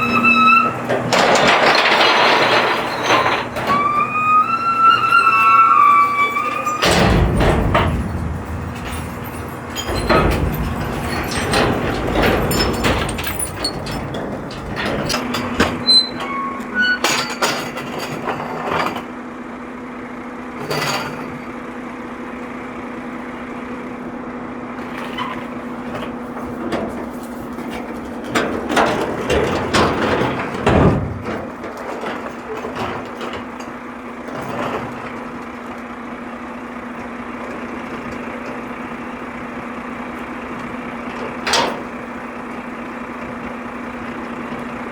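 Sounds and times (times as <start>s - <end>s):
garbage truck clattering bangs: 0.0s - 19.2s, 24.8s - 44.9s
garbage truck hum: 0.0s - 44.9s.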